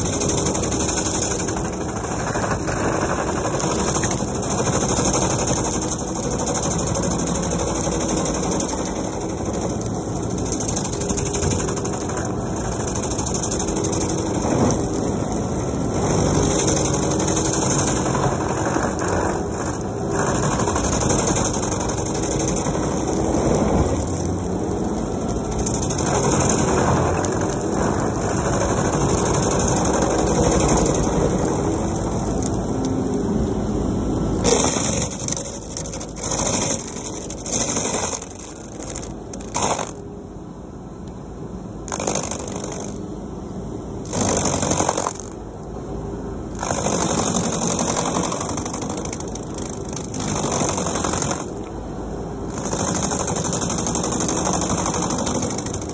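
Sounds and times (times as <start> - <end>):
cutter wheel grinding stump: 0.0 - 40.1, 41.8 - 43.1, 44.0 - 45.5, 46.5 - 51.8, 52.4 - 55.9
stump grinder engine running: 0.0 - 40.2, 41.8 - 43.1, 44.0 - 45.6, 46.4 - 55.9.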